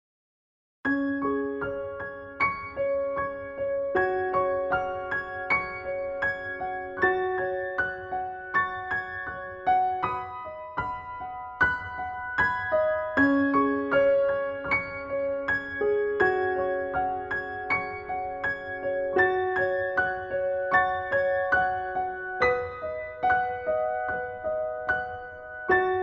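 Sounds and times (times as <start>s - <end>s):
gentle piano music: 0.9s - 26.0s.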